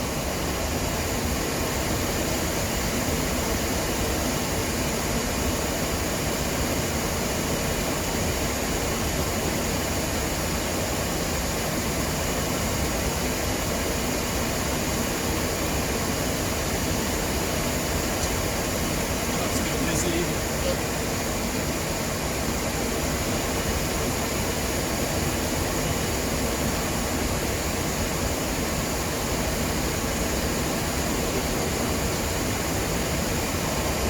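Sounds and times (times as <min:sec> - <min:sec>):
air-conditioning: 0:00.0 - 0:34.0
jet engines: 0:00.0 - 0:34.0.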